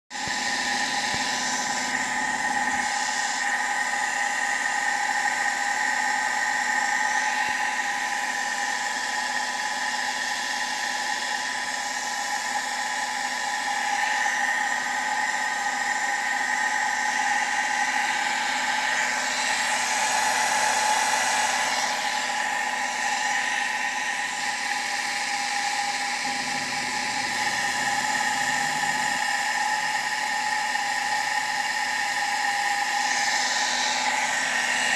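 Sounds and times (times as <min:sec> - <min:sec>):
water pump motor whine: 0:00.2 - 0:34.9.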